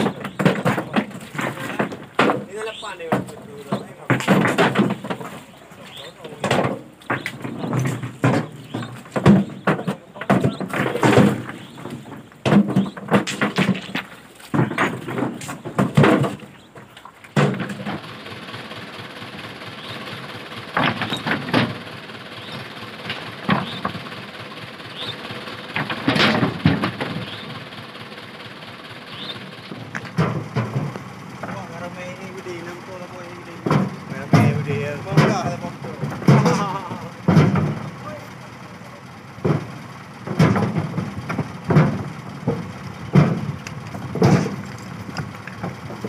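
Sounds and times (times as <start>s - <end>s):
stones knocking on steel truck bed: 0.0s - 18.2s, 20.6s - 24.2s, 25.6s - 27.4s, 29.7s - 38.2s, 39.4s - 46.0s.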